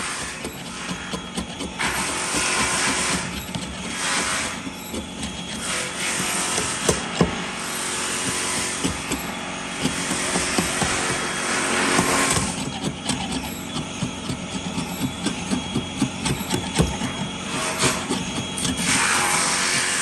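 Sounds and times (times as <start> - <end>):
power tool cutting wood: 0.0 - 20.0.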